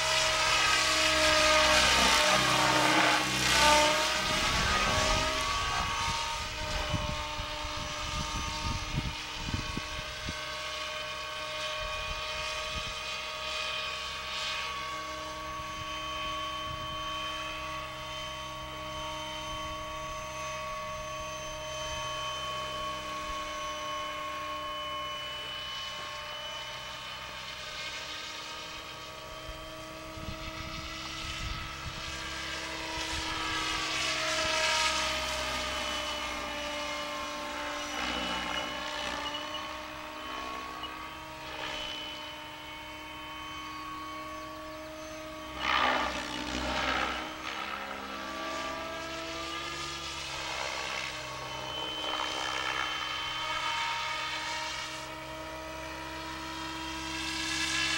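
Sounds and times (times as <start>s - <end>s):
helicopter motor whine: 0.0s - 57.9s
rotor blade noise: 0.0s - 57.9s.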